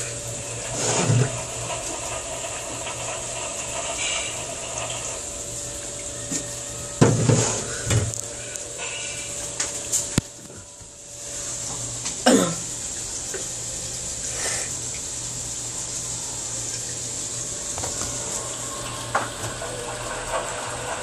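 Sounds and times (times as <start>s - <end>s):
water rushing into washing machine: 0.0s - 21.0s.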